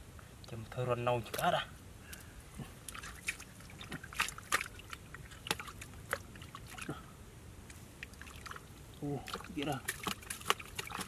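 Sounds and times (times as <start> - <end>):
wet mud squelching: 1.2 - 7.1, 7.9 - 11.0.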